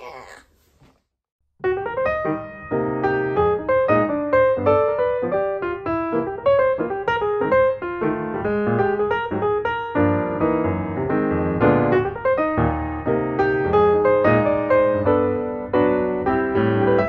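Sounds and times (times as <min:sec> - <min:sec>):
piano music: 0:01.6 - 0:17.0.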